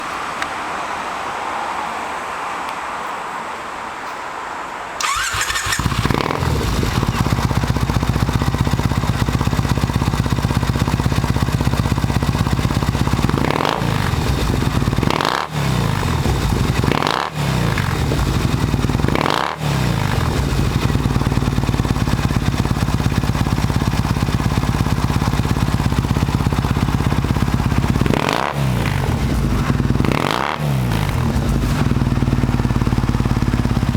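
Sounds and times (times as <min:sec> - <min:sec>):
motorcycle engine idling and revving: 0:05.0 - 0:33.9.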